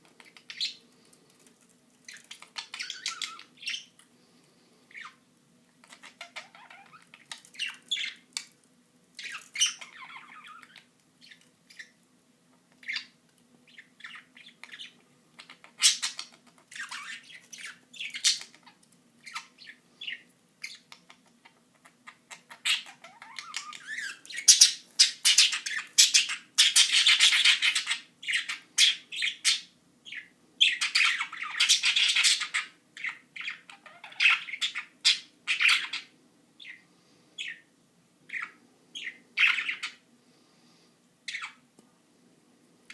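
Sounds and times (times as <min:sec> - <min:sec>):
budgerigars chirping and squawking: 0:00.1 - 0:00.8, 0:02.1 - 0:04.0, 0:04.9 - 0:05.2, 0:05.8 - 0:08.5, 0:09.2 - 0:12.0, 0:12.8 - 0:37.7, 0:38.3 - 0:40.0, 0:41.3 - 0:41.6.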